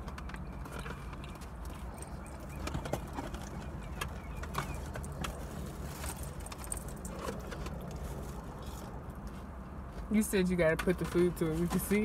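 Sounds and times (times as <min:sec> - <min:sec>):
low hum inside car: 0:00.0 - 0:12.0.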